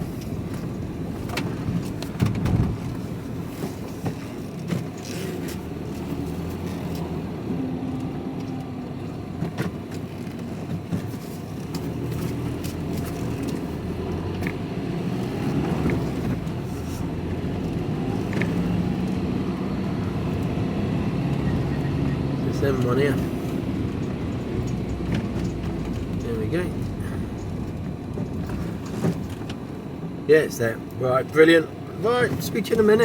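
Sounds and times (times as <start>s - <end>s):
road noise: 0.0s - 33.0s
van engine running: 0.0s - 33.0s.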